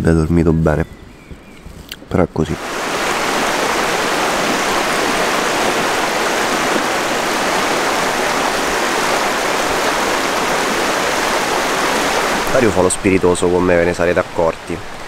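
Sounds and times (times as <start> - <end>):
stream rushing over rocks: 2.6 - 15.0.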